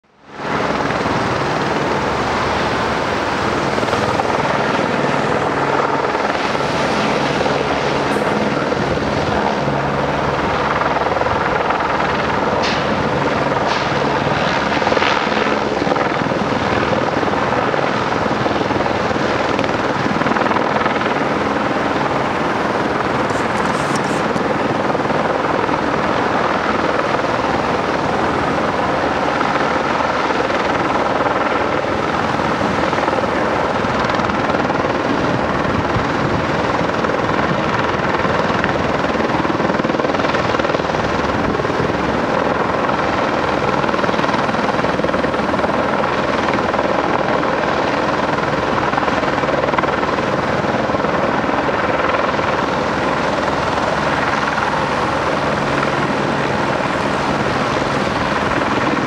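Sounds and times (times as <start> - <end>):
helicopter rotor noise: 0.0 - 59.0.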